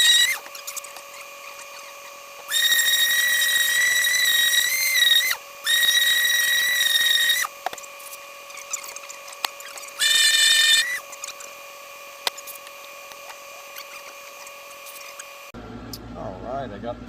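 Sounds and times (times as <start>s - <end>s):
power sander whining: 0.0s - 15.5s.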